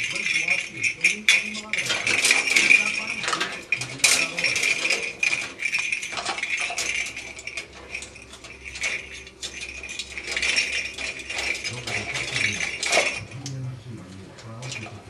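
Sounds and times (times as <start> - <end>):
parrot toy clicking and rattling: 0.0 - 15.0.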